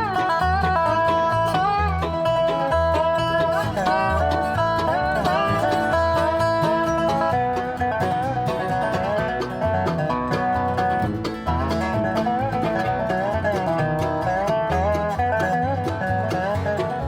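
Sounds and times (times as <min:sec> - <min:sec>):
upbeat instrumental music: 0:00.0 - 0:17.0.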